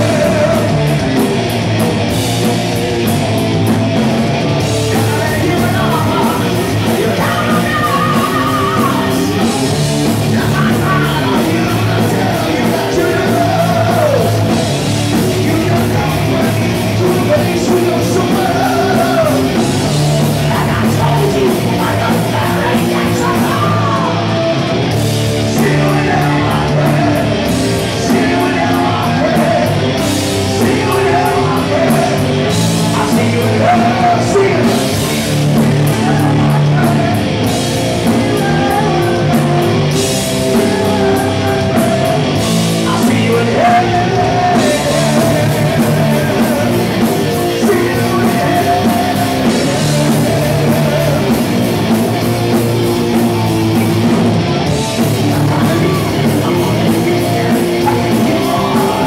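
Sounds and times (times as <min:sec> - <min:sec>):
distorted electric guitars: 0:00.0 - 0:59.0
drums: 0:00.0 - 0:59.0
person singing: 0:04.8 - 0:24.3, 0:25.3 - 0:59.0.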